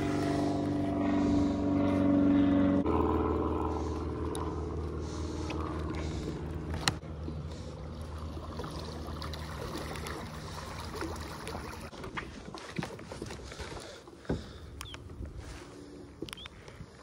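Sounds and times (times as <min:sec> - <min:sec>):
water churning: 0:00.0 - 0:16.2.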